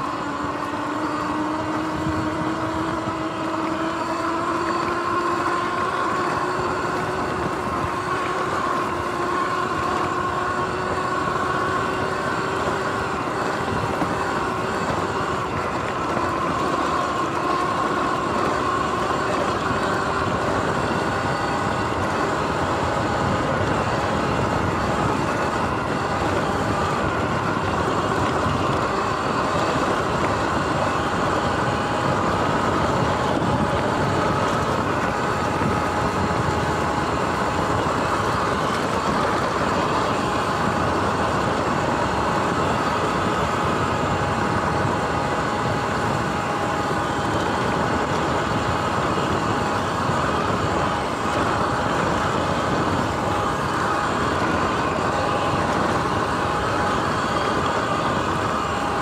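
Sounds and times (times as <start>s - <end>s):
electric dirt bike rushing noise: 0.0s - 59.0s
faint drivetrain whine: 0.0s - 59.0s.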